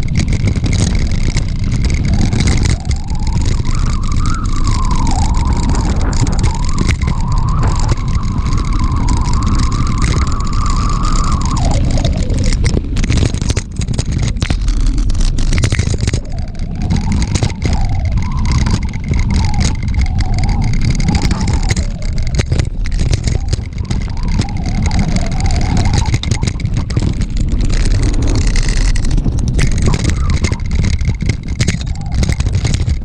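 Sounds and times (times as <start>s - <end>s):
bike clicks and rattles: 0.0s - 33.0s
wind rumble on microphone: 0.0s - 33.0s
wavering high tone: 1.9s - 14.3s, 15.5s - 33.0s.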